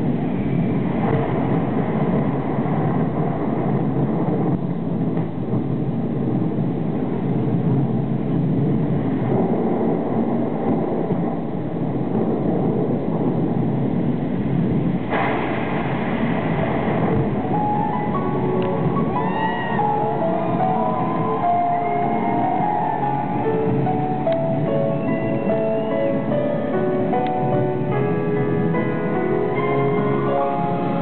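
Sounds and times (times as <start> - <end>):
low crowd rumble: 0.0 - 31.0.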